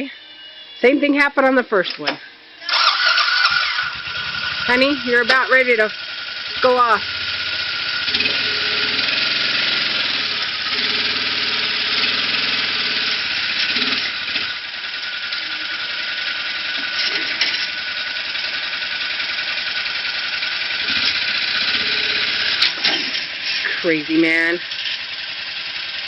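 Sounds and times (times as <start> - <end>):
rattling vehicle engine: 1.8 - 26.0.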